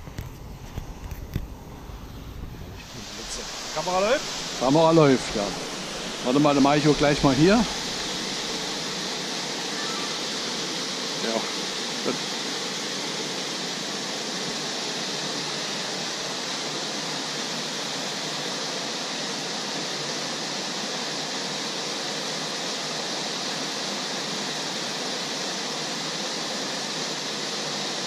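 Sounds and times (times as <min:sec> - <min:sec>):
waterfall rushing into pool: 0:02.7 - 0:28.0.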